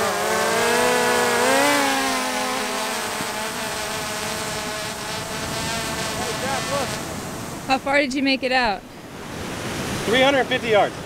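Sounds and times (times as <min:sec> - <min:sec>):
drone propellers whining: 0:00.0 - 0:09.0.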